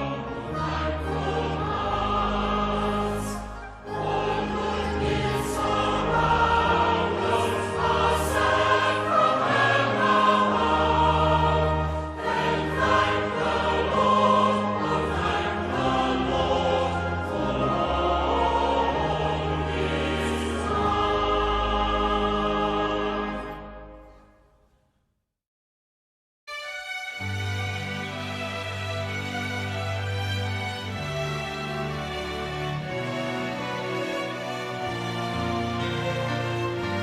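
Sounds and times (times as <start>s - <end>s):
choir singing a hymn: 0.0s - 24.0s, 27.6s - 37.0s.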